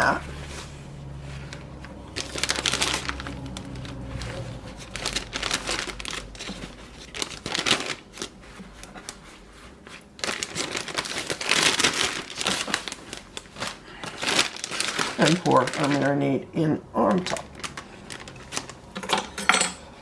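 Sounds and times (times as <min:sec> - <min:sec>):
plastic bag crinkling: 0:00.0 - 0:19.4.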